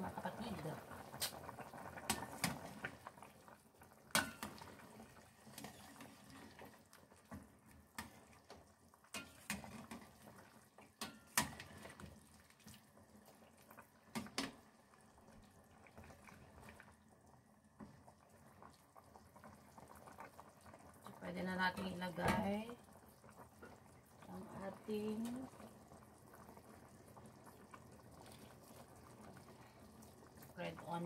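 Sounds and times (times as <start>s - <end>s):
broth bubbling in a pot: 0.0s - 31.0s.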